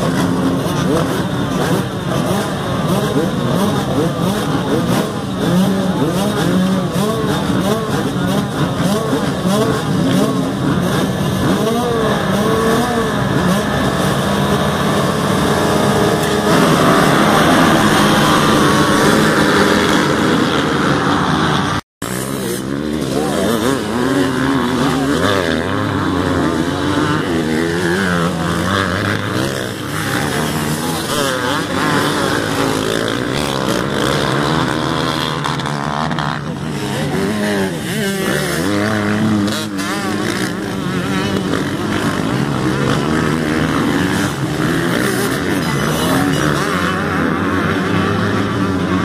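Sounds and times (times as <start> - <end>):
motocross bikes revving: 0.0 - 49.0.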